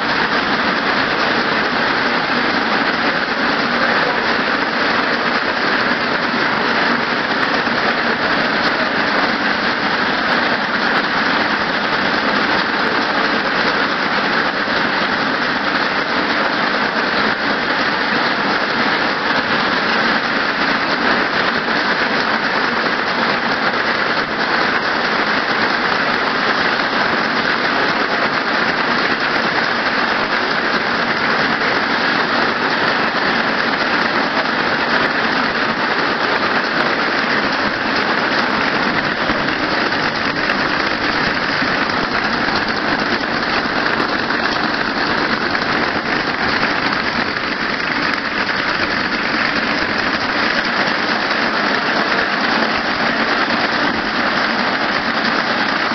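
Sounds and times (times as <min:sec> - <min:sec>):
braiding machine metallic clatter: 0:00.0 - 0:55.9.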